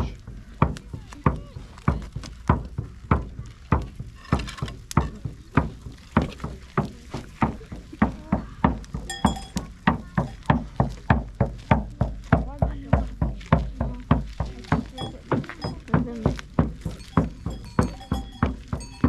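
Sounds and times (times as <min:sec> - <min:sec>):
steady drumbeat: 0:00.0 - 0:19.0.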